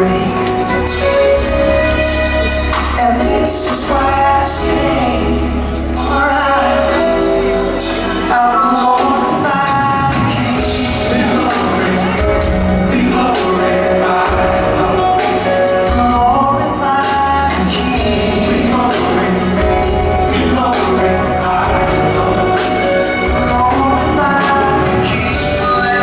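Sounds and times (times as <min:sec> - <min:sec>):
band with drums bass and keyboards: 0:00.0 - 0:26.0
gospel choir singing: 0:00.0 - 0:26.0
man singing lead: 0:00.0 - 0:26.0.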